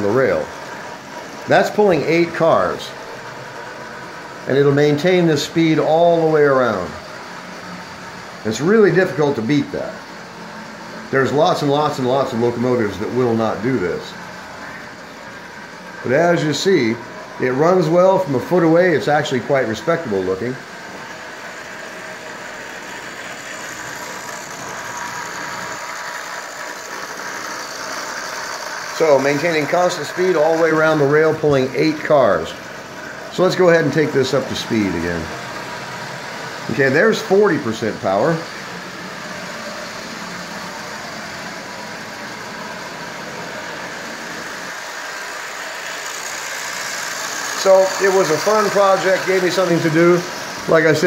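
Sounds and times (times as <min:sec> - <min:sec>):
toy train electric motor whirring: 0:00.0 - 0:51.0
wheels rumbling on metal rails: 0:00.0 - 0:51.0.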